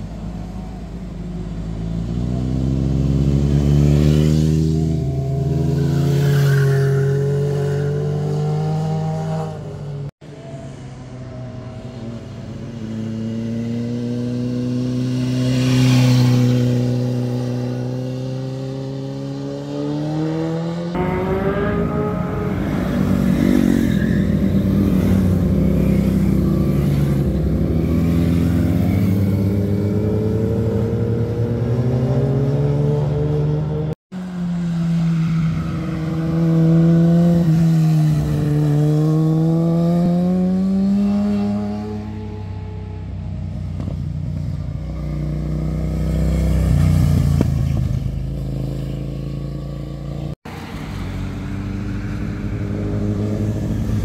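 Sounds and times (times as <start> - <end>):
motorcycles riding past: 0.0 - 10.1, 11.7 - 54.0.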